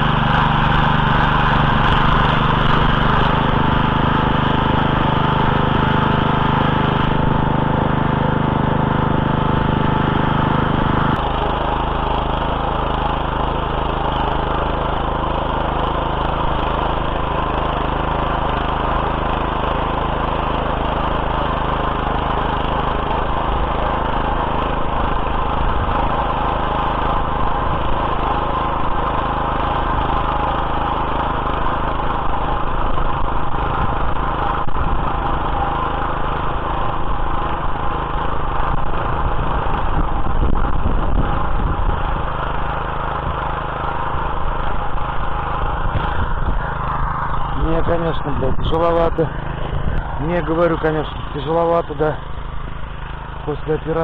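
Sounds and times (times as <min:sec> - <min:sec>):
garden tiller engine running: 0:00.0 - 0:54.0.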